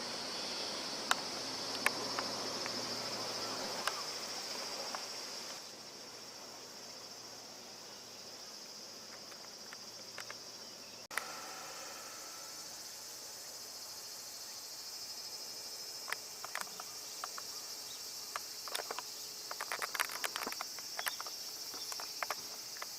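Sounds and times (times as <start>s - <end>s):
cicadas droning: 0.0s - 22.9s.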